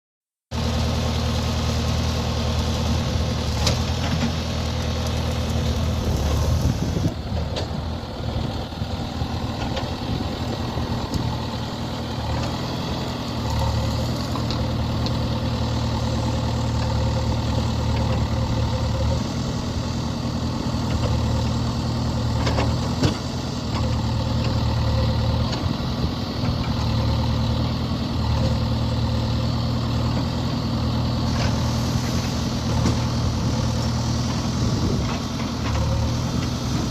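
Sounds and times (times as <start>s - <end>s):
diesel engine running: 0.5s - 36.9s.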